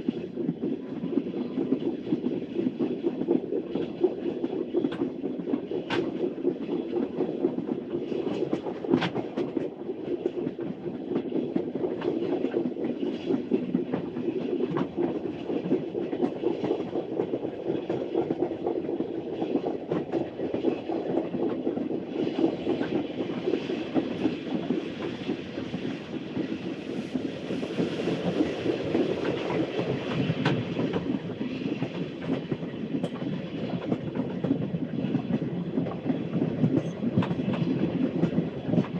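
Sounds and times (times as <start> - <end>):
steam train rolling rumble: 0.0 - 38.9
sharp track clicks: 4.9 - 38.9.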